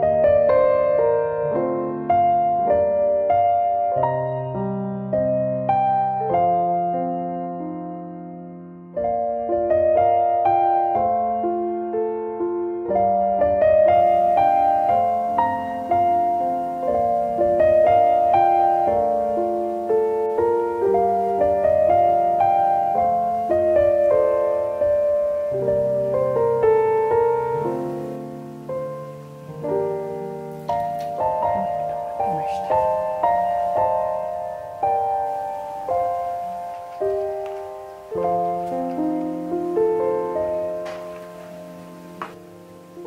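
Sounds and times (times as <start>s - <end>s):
gentle solo piano music: 0.0s - 43.0s.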